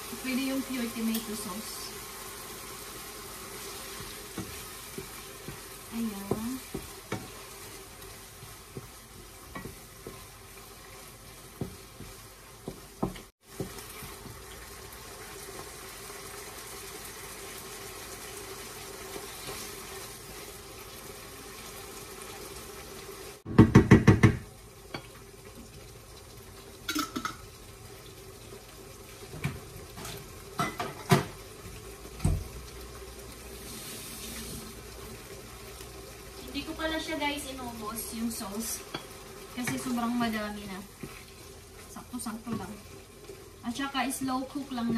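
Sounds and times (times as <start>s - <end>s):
sauce sizzling in a frying pan: 0.0s - 44.9s.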